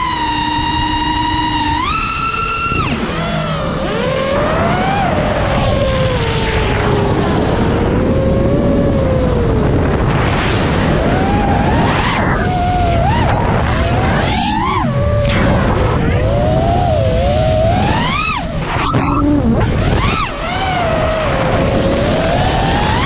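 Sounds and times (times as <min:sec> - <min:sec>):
quadcopter motors whining: 0:00.0 - 0:23.0
rush of prop wash and wind: 0:00.0 - 0:23.0.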